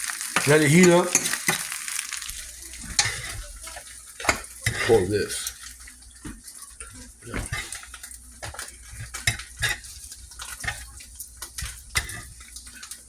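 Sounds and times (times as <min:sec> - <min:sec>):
eggs frying: 0:00.0 - 0:13.0
utensil scraping a frying pan: 0:00.0 - 0:13.0.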